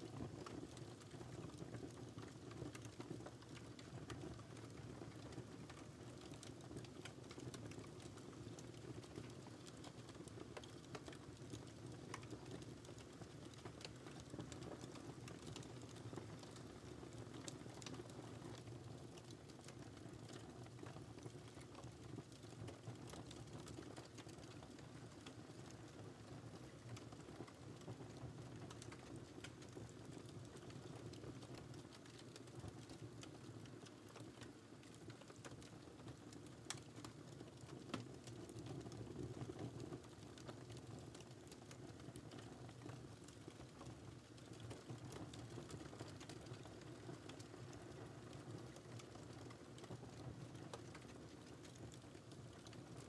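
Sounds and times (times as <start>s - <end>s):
wood fire popping: 0.3s - 53.0s.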